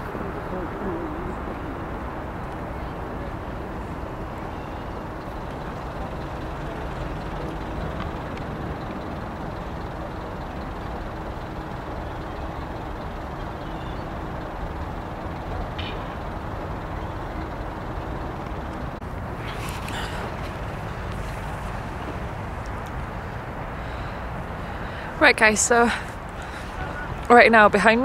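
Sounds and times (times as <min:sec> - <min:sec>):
distant city traffic rumble: 0:00.0 - 0:28.0
wind buffeting microphone: 0:00.0 - 0:28.0.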